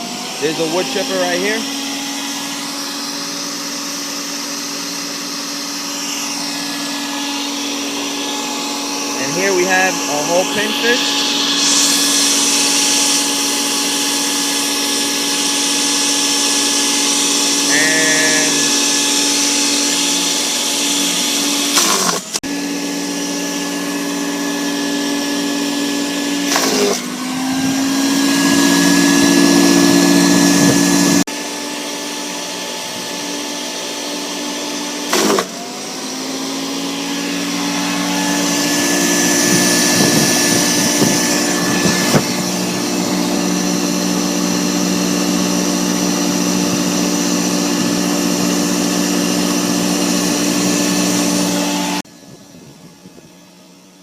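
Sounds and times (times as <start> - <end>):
wood chipper motor whine: 0.0 - 54.0.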